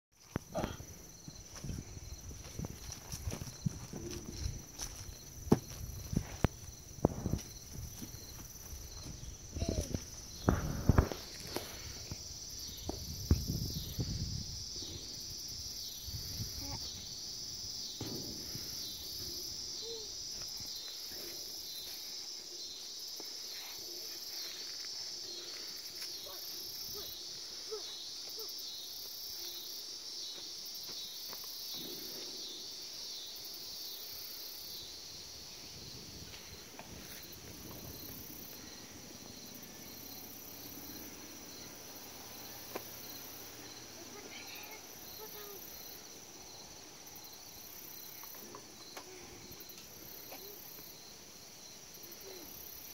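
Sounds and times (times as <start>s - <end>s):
high chirping crickets: 0.2s - 52.9s
high insect trill: 0.2s - 52.9s.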